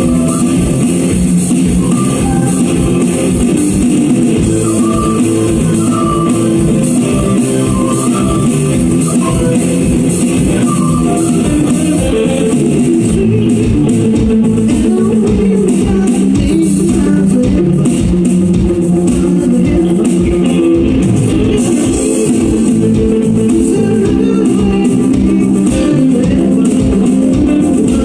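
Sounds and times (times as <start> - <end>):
bass guitar: 0.0 - 28.0
electric guitar: 0.0 - 28.0
keyboards: 0.0 - 28.0.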